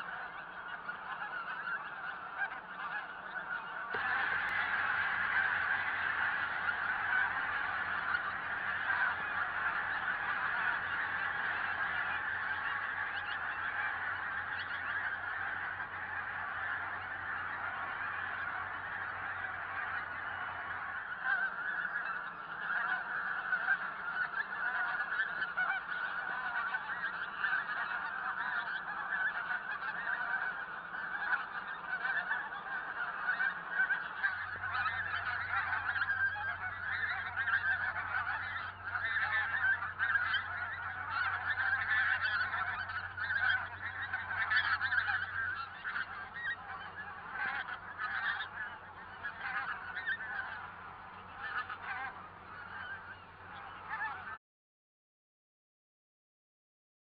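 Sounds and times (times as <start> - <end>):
flock of geese honking: 0.0 - 54.4.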